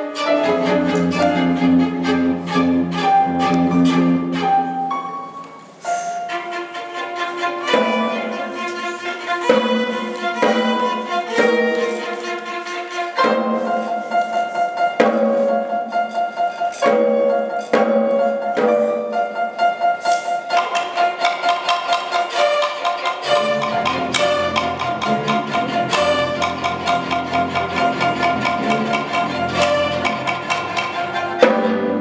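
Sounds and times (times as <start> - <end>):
violin ensemble playing: 0.0 - 32.0.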